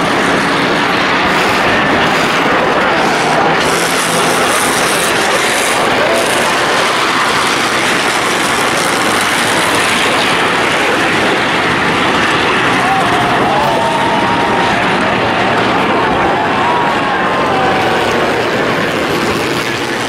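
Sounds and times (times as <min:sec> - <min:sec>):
race car engines roaring: 0:00.0 - 0:20.0.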